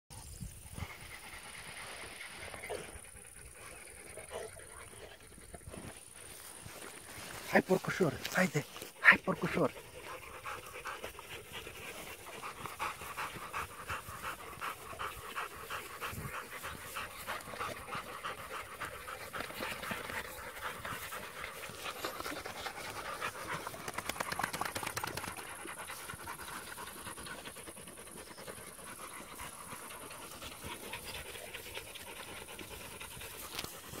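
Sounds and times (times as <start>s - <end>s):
puppies panting: 0.6s - 34.0s.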